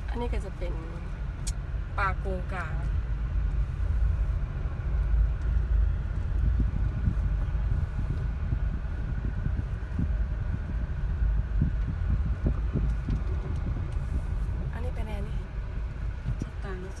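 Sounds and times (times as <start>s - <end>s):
car driving on gravel: 0.0s - 17.0s.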